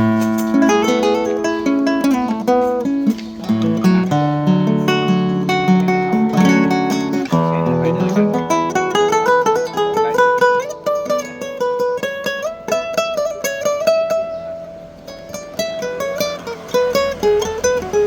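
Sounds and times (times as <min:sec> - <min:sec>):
classical guitar fingerstyle: 0:00.0 - 0:18.0.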